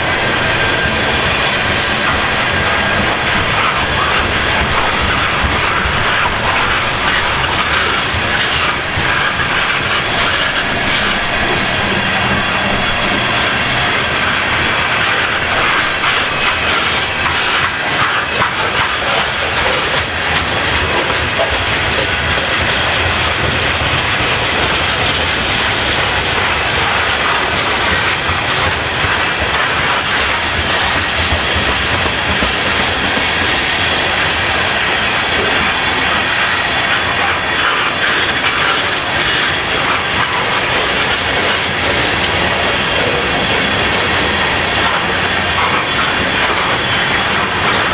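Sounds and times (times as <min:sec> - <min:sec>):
train wheels clattering on rails: 0:00.0 - 0:47.9.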